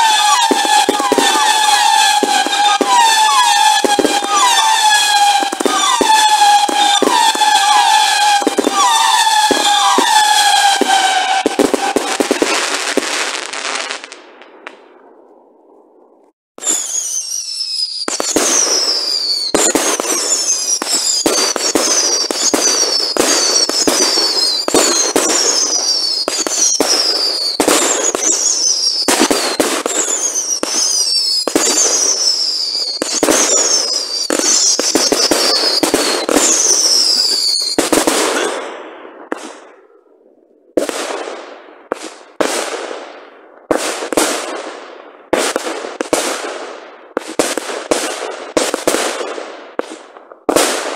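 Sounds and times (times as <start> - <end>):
firework bursts with crackle: 0.0 - 15.1, 16.6 - 39.8, 40.8 - 50.9
firework bangs: 0.0 - 15.2, 16.6 - 39.8, 40.7 - 50.9
whistling firework shots: 0.0 - 15.4, 16.6 - 40.0, 40.7 - 50.9.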